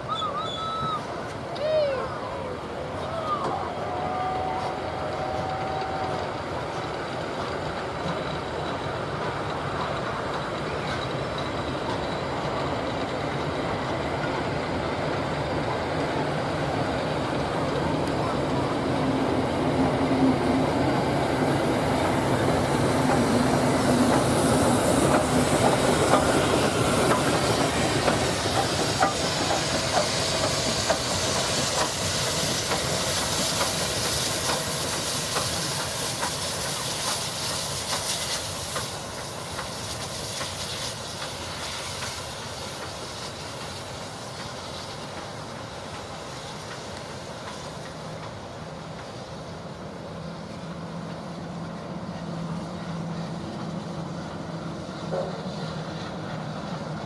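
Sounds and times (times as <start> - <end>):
train wheels clicking on rails: 0.0 - 57.0.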